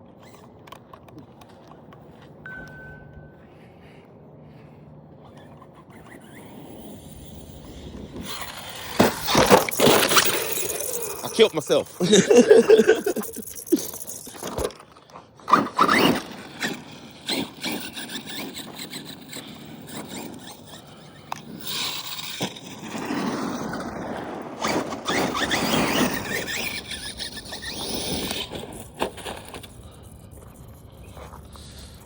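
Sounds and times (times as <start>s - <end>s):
rc car tyres scraping: 0.0s - 2.5s, 3.4s - 32.0s
motor whine: 2.1s - 32.0s.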